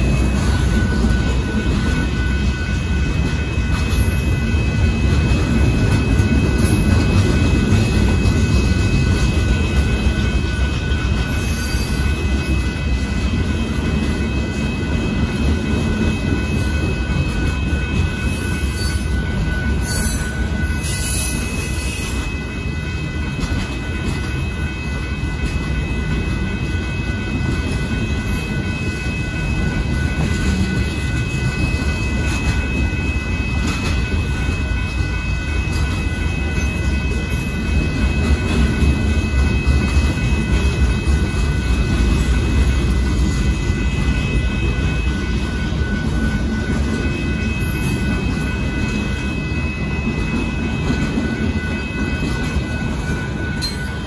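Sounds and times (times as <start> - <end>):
freight train wheels rumbling: 0.0 - 54.0
steady high-pitched tone: 0.0 - 54.0.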